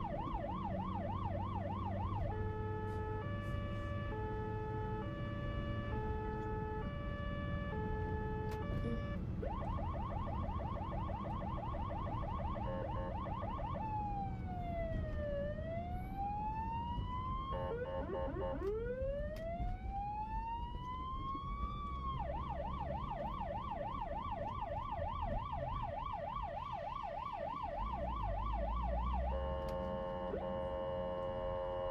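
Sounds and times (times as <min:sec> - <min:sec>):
ambulance siren: 0:00.0 - 0:31.9
low traffic rumble: 0:00.0 - 0:31.9.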